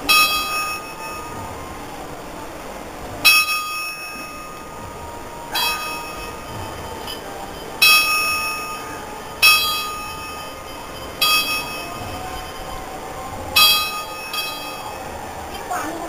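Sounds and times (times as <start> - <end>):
bell ringing: 0.0 - 1.4, 3.2 - 4.8, 5.5 - 16.0.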